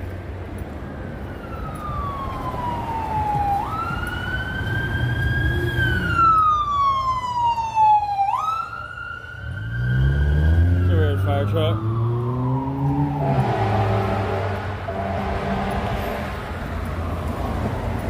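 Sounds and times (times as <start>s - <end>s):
fire engine siren wailing: 1.0s - 16.4s.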